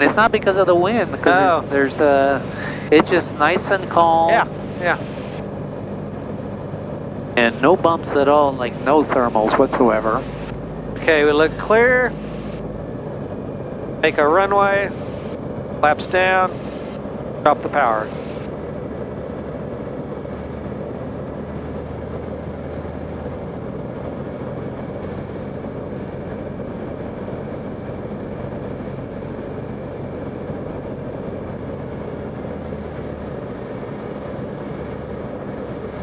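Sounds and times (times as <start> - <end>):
light aircraft engine drone: 0.0 - 36.0.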